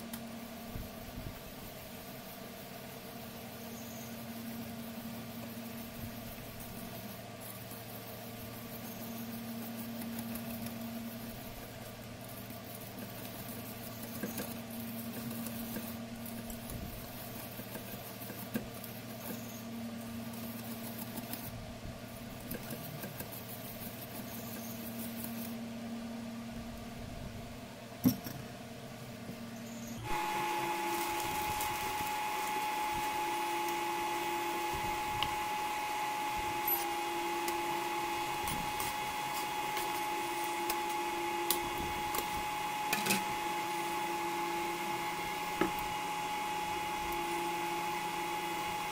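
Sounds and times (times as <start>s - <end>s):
induction cooktop electrical whine: 0.0s - 48.9s.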